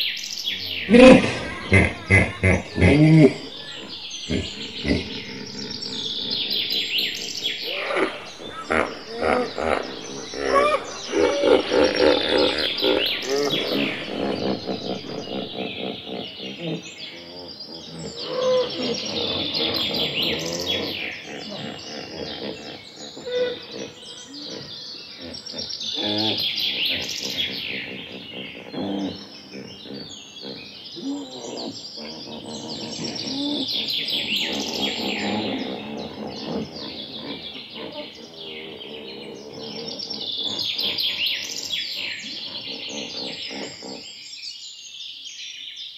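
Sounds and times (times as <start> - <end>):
birds chirping and calling: 0.0 - 45.6.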